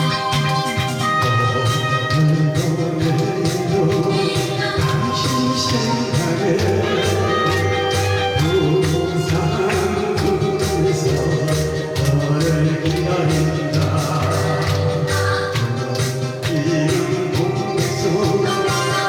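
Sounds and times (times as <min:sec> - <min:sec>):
instrumental backing music: 0:00.0 - 0:19.0.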